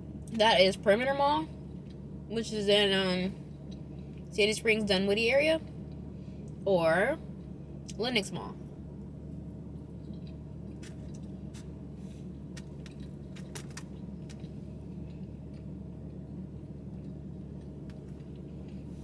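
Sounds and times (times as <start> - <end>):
low hum inside car: 0.0 - 19.0.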